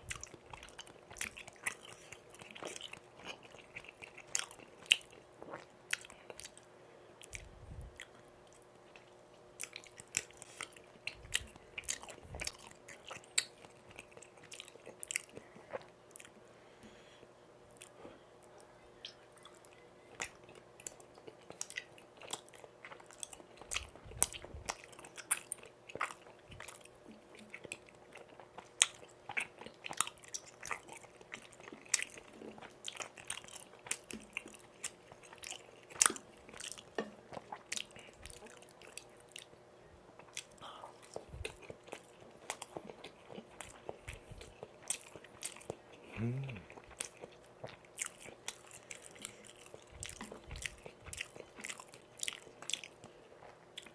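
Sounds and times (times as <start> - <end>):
close-miked chewing: 0.0 - 16.4, 17.7 - 53.9
faint steady hum: 0.0 - 53.9.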